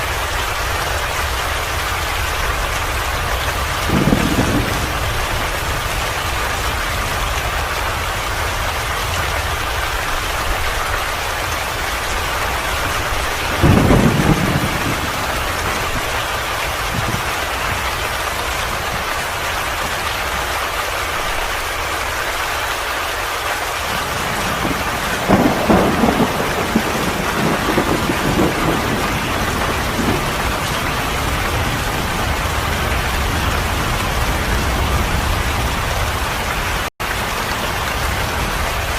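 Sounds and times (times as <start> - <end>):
steady rain: 0.0 - 38.9
thunder rumbling: 0.2 - 19.9, 23.9 - 38.9.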